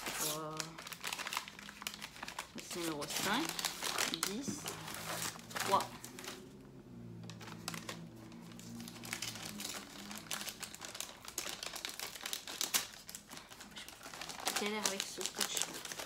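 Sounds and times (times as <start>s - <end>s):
paper wrapping crinkling: 0.0s - 6.5s, 7.3s - 16.0s.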